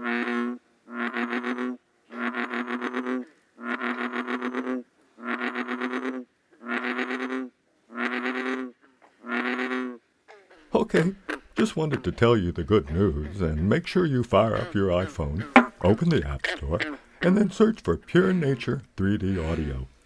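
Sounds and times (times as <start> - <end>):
bullfrog croaking: 0.0 - 17.4.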